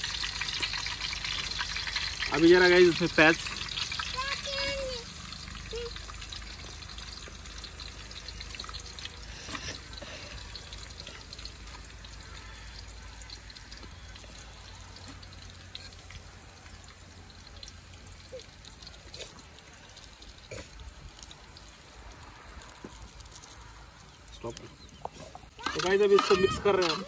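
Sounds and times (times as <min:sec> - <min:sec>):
onion sizzling in hot oil: 0:00.0 - 0:24.2
oil crackles and pops: 0:00.0 - 0:27.0.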